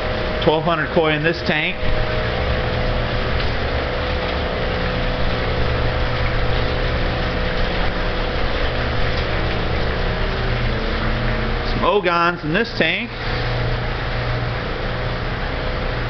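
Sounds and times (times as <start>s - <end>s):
low motor hum: 0.0s - 16.0s
running water from pumps: 0.0s - 16.0s.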